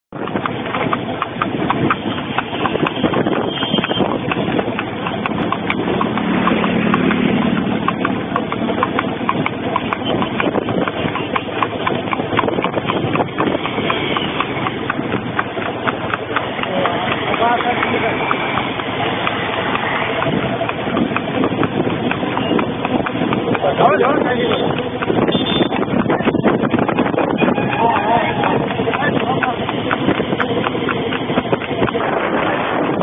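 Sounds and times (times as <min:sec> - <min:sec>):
horse hooves clip-clopping on asphalt: 0:00.1 - 0:33.0
vehicle engine running: 0:00.6 - 0:27.1, 0:28.3 - 0:33.0.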